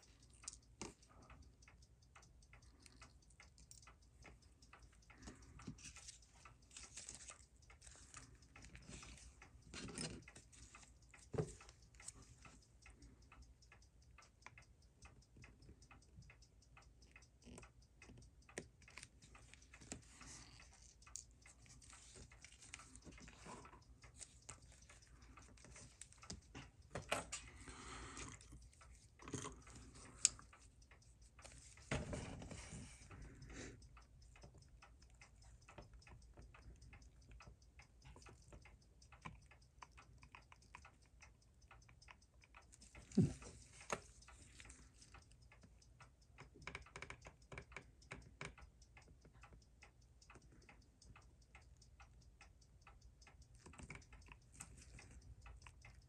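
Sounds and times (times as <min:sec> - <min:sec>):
watch movement ticking: 0:00.0 - 0:56.0.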